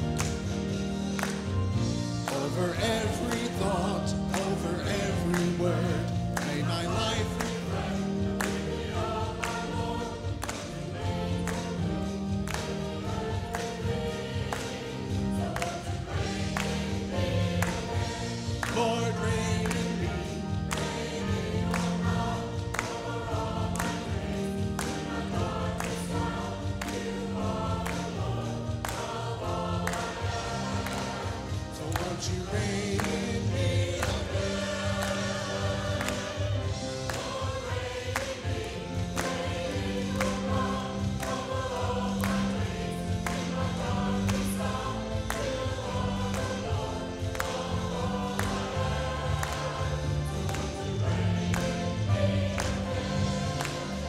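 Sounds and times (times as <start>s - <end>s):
choir singing worship song: 0.0s - 54.0s
instrumental accompaniment with beat: 0.0s - 54.0s.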